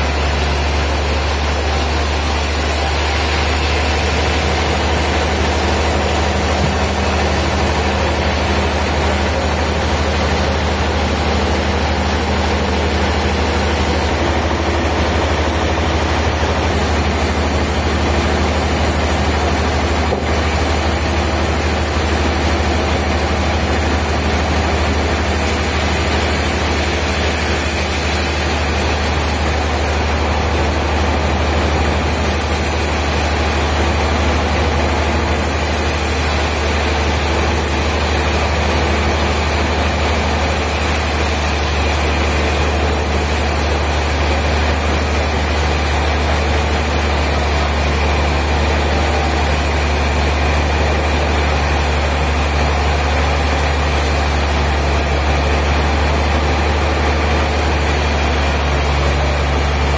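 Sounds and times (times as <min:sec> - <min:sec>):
heavy engine running: 0:00.0 - 0:59.9.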